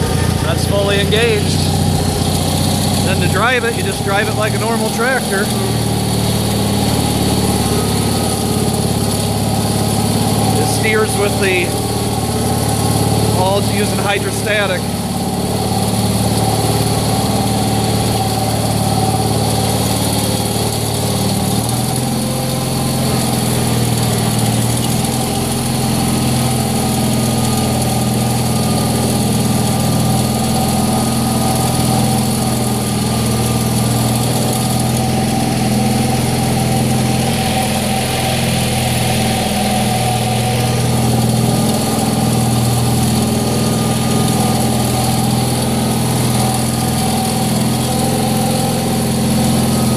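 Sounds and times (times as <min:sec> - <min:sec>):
small engine running: 0:00.0 - 0:49.9.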